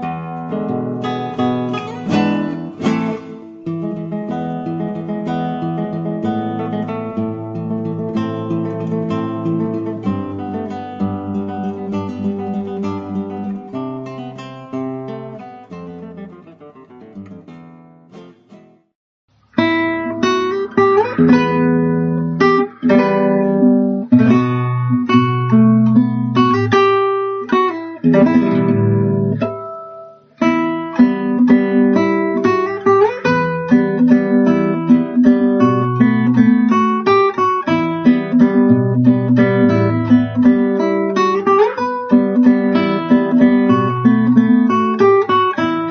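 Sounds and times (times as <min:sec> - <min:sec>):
acoustic guitar plucked and strummed: 0:00.0 - 0:45.9.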